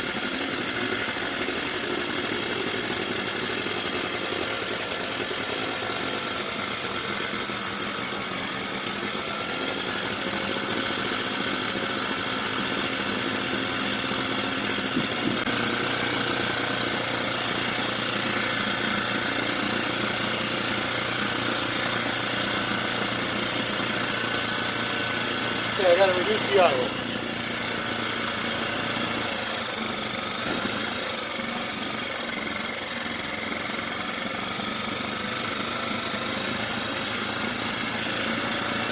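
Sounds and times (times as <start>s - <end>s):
outboard motor idling fast: 0.0s - 38.9s.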